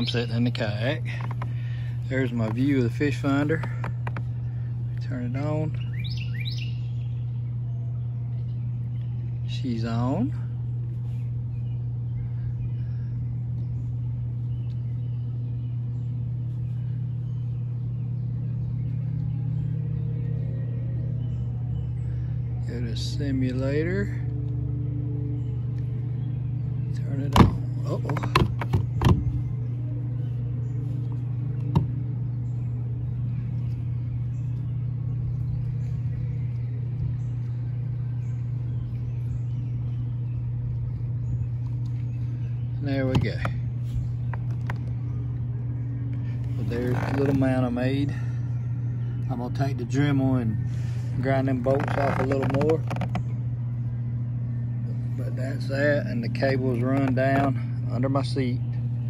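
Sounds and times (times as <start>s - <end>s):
machine humming: 0.0s - 59.0s
steady low rumble: 0.0s - 59.0s.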